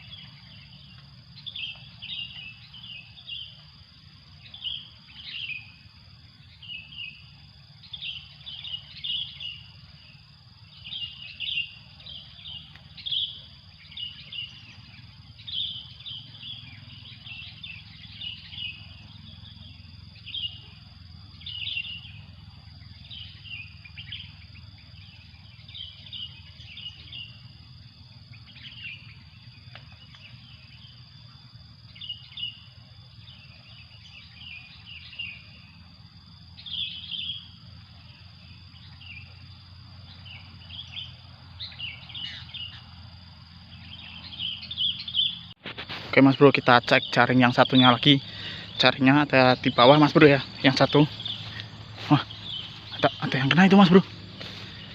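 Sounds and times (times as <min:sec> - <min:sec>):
birds chirping: 0:00.0 - 0:54.9
high-pitched insect drone: 0:00.0 - 0:54.9.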